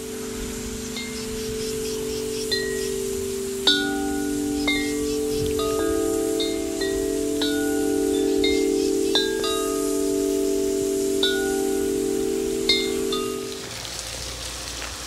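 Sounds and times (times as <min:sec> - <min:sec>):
wind chimes ringing: 0:00.0 - 0:14.0.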